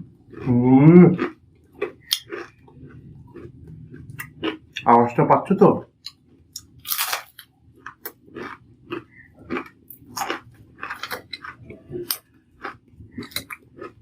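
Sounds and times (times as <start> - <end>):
fried fritters crunching: 0.0 - 5.2, 6.0 - 14.0.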